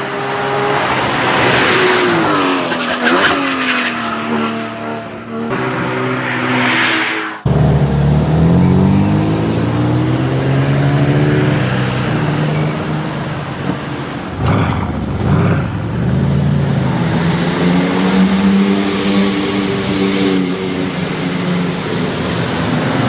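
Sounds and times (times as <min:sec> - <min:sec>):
car engine revving: 0:00.1 - 0:21.8.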